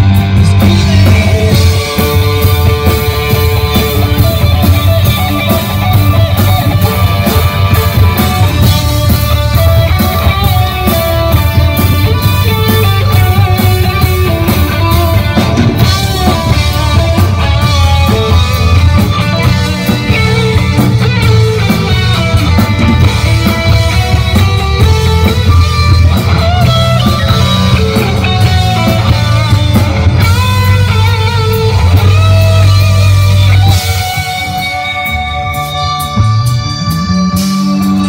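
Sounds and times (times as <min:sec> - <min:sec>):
guitar-led rock music: 0:00.0 - 0:38.0.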